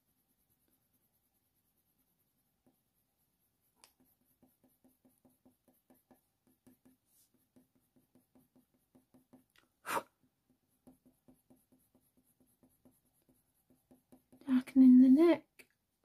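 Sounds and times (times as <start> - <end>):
pencil shading on paper: 0.0 - 14.9.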